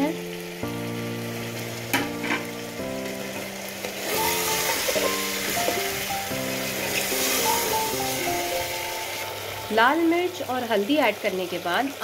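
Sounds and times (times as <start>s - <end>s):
background music with held notes: 0.0s - 10.6s
meat and onions sizzling in oil: 0.0s - 12.0s.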